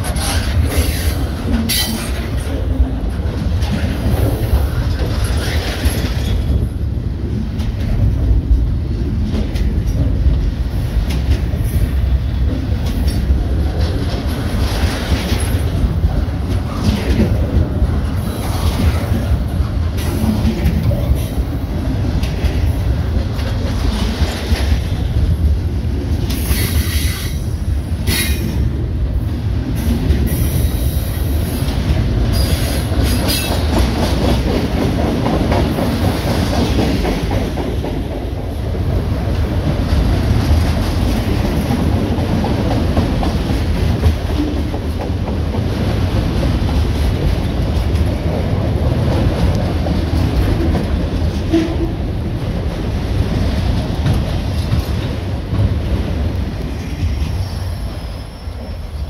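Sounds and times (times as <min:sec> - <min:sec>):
rumble of train wheels on rail: 0:00.0 - 0:59.0.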